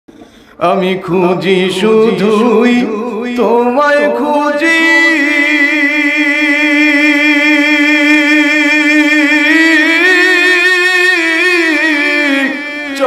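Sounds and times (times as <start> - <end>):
man singing with vibrato: 0.6 - 13.0.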